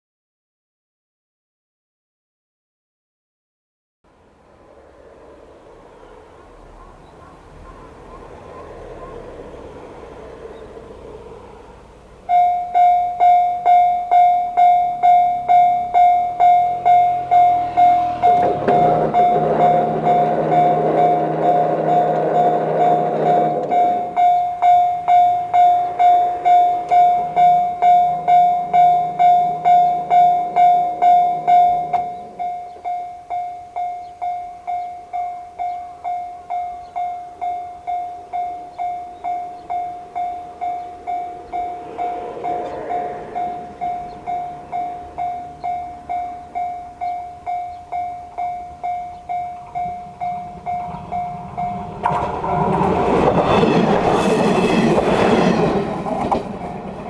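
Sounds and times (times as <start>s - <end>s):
diesel railcar arriving: 4.1s - 57.0s
level crossing warning bell: 5.7s - 57.0s.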